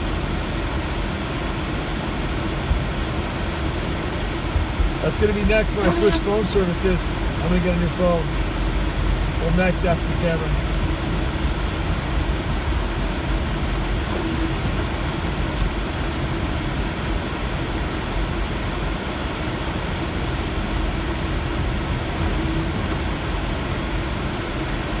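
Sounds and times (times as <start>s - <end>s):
car engine and tyre rumble: 0.0s - 25.0s
faint steady hum: 0.0s - 25.0s.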